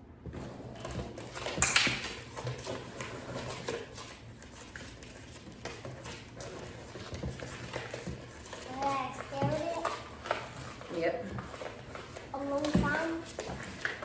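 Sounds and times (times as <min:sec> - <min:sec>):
spoon stirring slime in bowl: 0:00.2 - 0:14.0.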